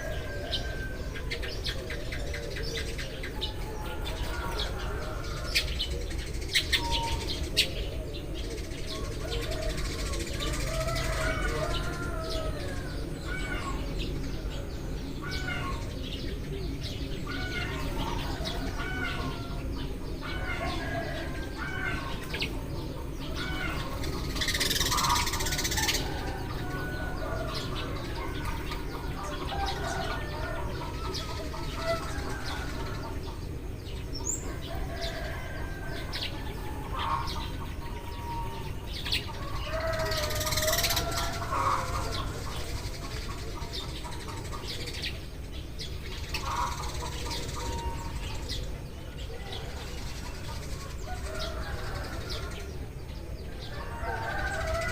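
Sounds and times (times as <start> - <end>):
sparrows chirping: 0.0 - 54.9.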